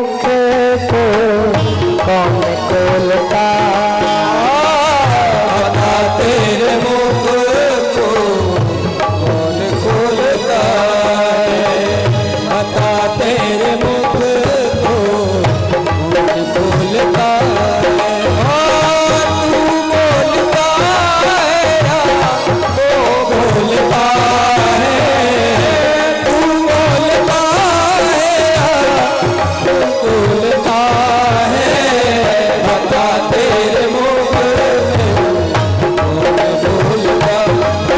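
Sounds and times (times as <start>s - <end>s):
tabla rhythm: 0.0s - 37.9s.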